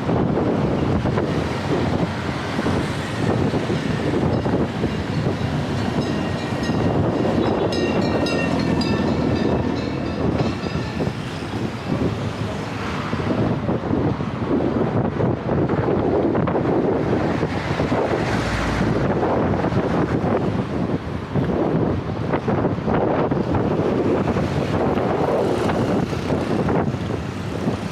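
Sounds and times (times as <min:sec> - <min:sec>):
rumbling road and traffic noise: 0:00.0 - 0:27.9
wind rushing over microphone: 0:00.0 - 0:27.9.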